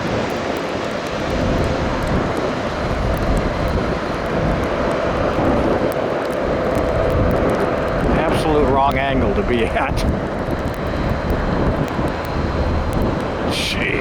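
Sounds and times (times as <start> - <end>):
jet engines roaring: 0.0 - 14.0
rain ticks on microphone: 0.0 - 14.0
wind rumbling on microphone: 0.0 - 14.0.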